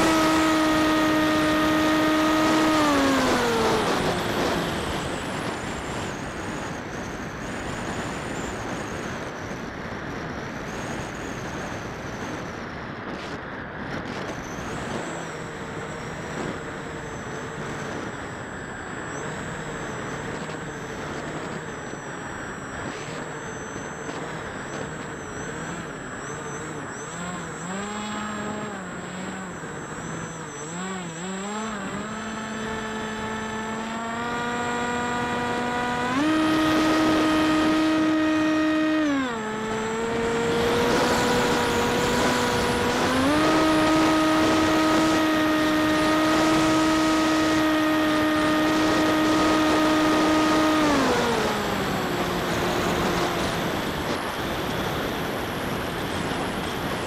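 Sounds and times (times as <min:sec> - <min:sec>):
electric motor and propeller whining: 0:00.0 - 0:57.0.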